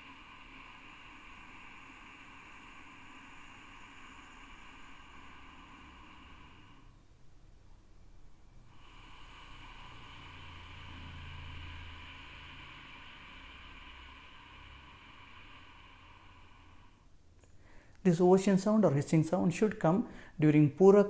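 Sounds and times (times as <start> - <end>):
hissing breath through throat: 0.0 - 7.2, 8.6 - 20.9.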